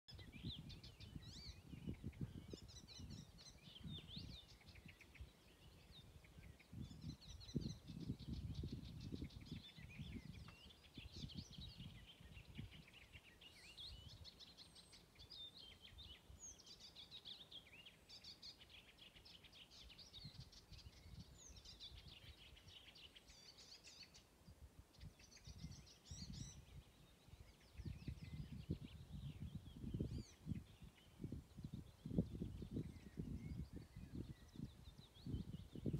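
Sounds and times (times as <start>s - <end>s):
wind noise on microphone: 0.1s - 17.5s, 18.1s - 35.9s
warbler singing: 0.1s - 35.9s.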